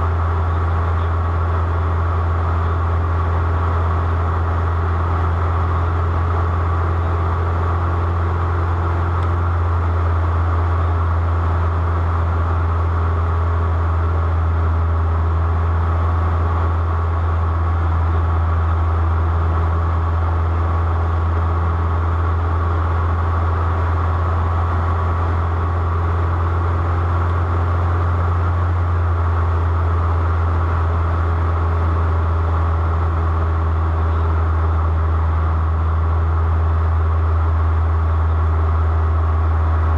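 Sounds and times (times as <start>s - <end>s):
aircraft engine drone: 0.0s - 39.9s
faint steady whine: 0.0s - 39.9s.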